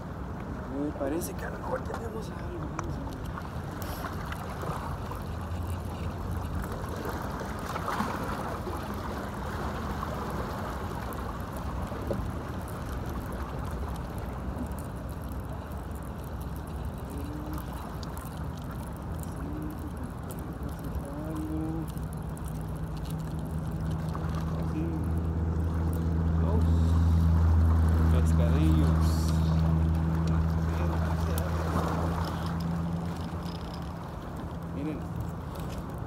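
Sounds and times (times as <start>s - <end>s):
sea water rushing on shore: 0.0s - 36.0s
low hum: 2.4s - 36.0s.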